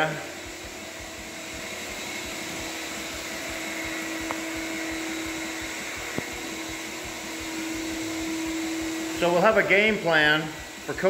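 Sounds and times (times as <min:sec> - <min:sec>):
shop vacuum running: 0:00.0 - 0:11.0.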